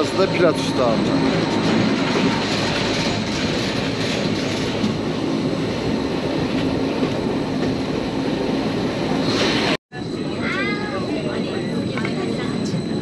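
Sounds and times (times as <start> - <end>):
rack railway train running rumble: 0.0 - 13.0.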